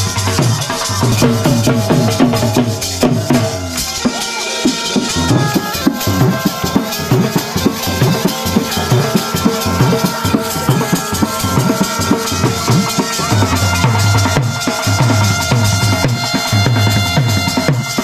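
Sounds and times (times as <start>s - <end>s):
band melody: 0.0s - 18.0s
dhol drums beating: 0.0s - 18.0s.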